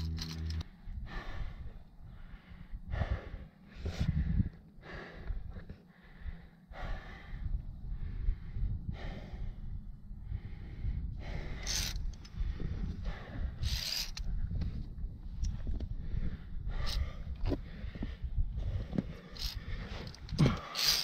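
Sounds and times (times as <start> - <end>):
steady low rumble: 0.0 - 21.0
person breathing hard: 0.8 - 14.5, 15.5 - 21.0.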